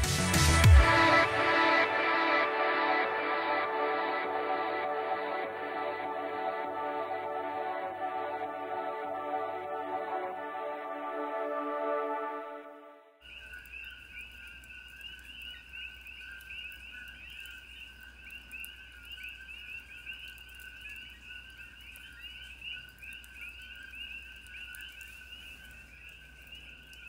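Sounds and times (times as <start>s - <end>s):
chorus of frogs chirping: 0.8s - 11.3s, 13.2s - 27.0s.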